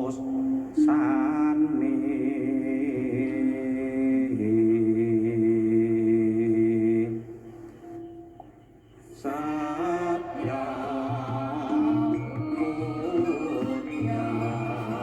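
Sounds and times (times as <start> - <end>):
person singing chant-like melody: 0.0 - 7.6, 9.1 - 15.0.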